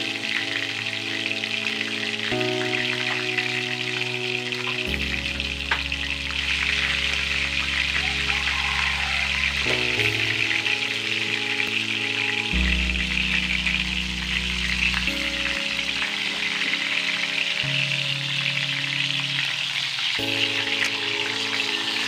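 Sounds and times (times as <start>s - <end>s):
chicken sizzling in hot oil: 0.0s - 22.0s
soft background music: 0.0s - 22.0s.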